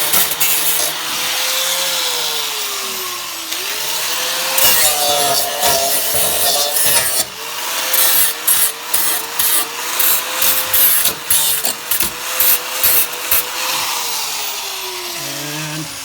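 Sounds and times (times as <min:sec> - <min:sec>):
power tool cutting sheet metal: 0:00.0 - 0:16.0.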